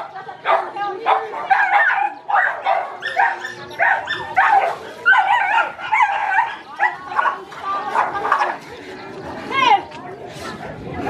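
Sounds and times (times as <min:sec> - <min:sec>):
dogs fighting barking and yelping: 0:00.0 - 0:09.4.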